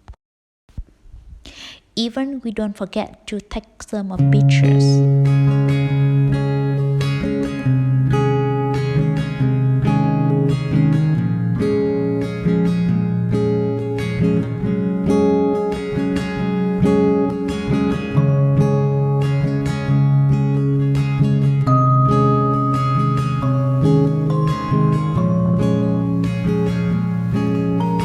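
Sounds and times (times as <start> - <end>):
acoustic guitar strumming: 4.2 - 28.0.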